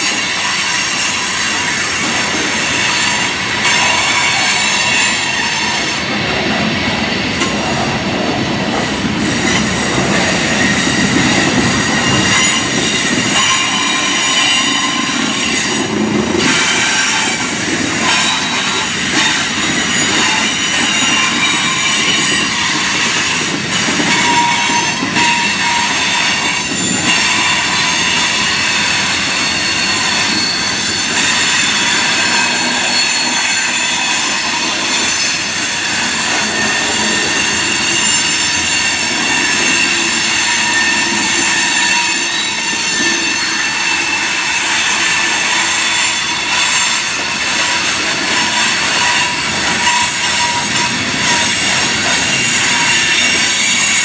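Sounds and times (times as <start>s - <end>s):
high-pitched wheel squeal: 0.0s - 6.1s, 9.2s - 54.0s
train wheels rumbling on rail: 0.0s - 54.0s.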